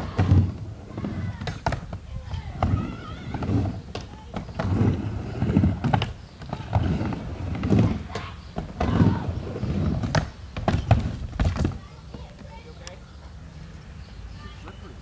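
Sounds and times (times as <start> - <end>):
skateboard wheels rumbling on ramp: 0.0 - 12.6.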